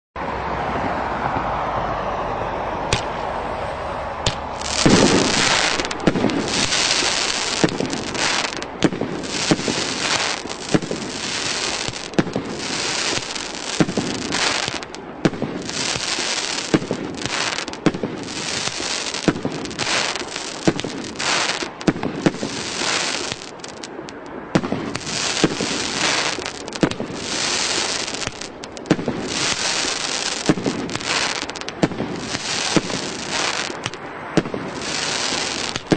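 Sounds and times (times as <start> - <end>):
fireworks crackling: 4.2 - 35.9
fireworks bangs and bursts: 4.3 - 35.9.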